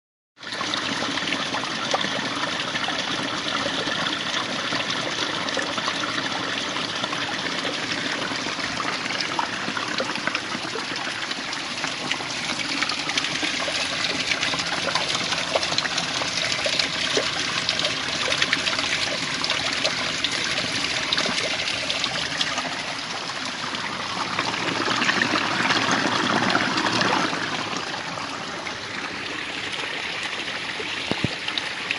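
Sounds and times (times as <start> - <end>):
water current rushing and splashing: 0.5 - 31.9.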